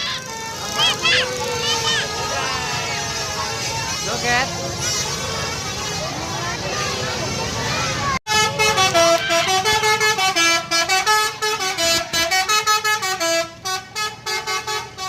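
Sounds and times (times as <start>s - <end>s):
multi-tone air horn melody: 0.0s - 5.5s, 8.3s - 15.0s.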